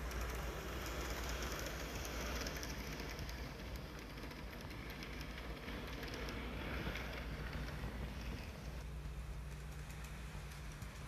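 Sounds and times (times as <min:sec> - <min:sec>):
model train motor whir: 0:00.0 - 0:11.0
wheels rattling over rails: 0:00.0 - 0:11.0.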